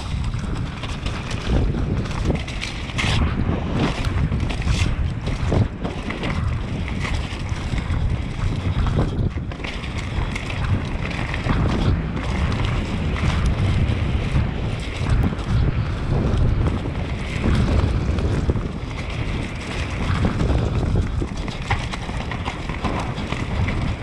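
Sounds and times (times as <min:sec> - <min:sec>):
bike knocking and rattling: 0:00.0 - 0:24.0
tyres on dirt and leaves: 0:00.0 - 0:24.0
wind rushing over microphone: 0:00.0 - 0:24.0.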